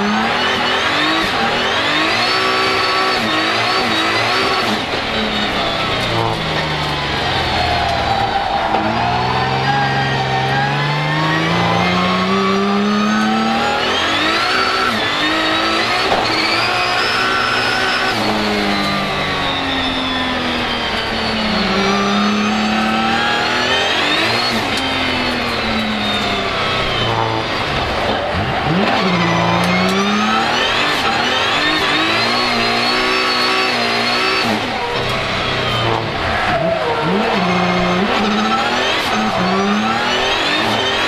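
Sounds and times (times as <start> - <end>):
car engine revving at hard throttle: 0.0 - 41.0.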